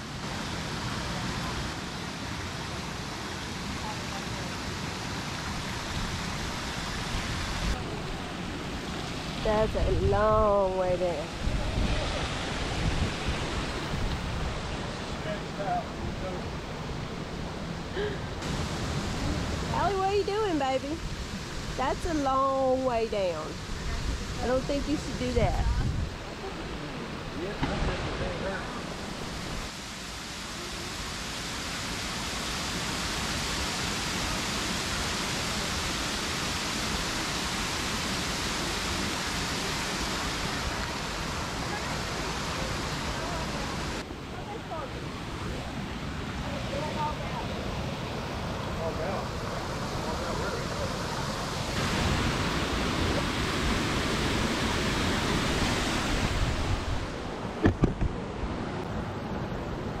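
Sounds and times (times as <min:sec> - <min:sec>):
waterfall rushing: 0:00.0 - 0:57.6.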